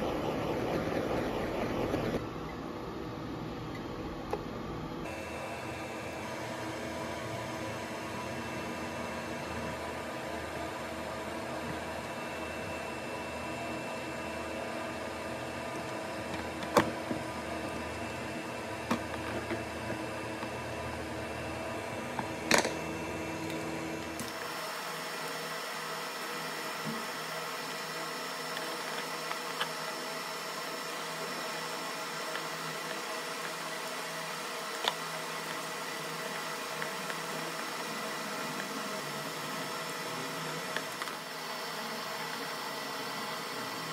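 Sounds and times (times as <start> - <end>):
background hiss and hum: 0.0 - 43.9.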